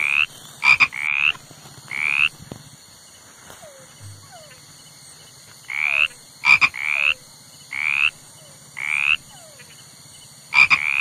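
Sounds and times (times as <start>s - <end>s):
frog croaking: 0.0s - 2.4s, 3.6s - 11.0s.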